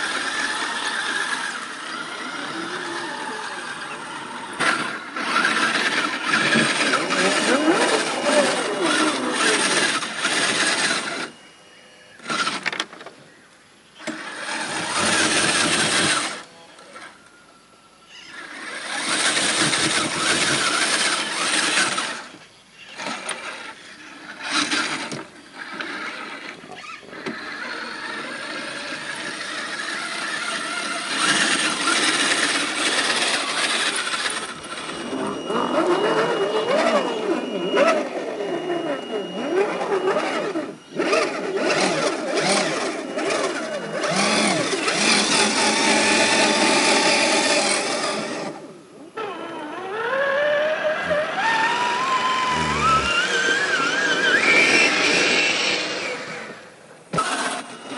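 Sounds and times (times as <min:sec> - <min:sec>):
electric motors whining: 0:00.0 - 0:57.9.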